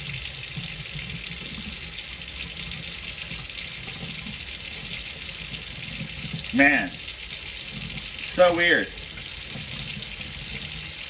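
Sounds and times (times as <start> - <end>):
water running into a sink: 0.0 - 11.0.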